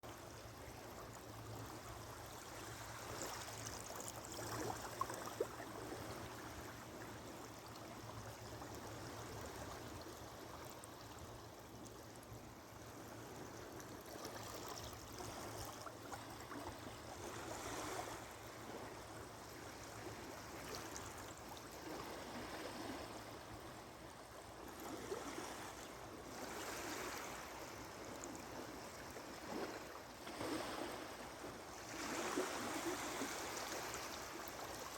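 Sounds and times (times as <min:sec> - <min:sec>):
small waves lapping: 0:00.1 - 0:34.9.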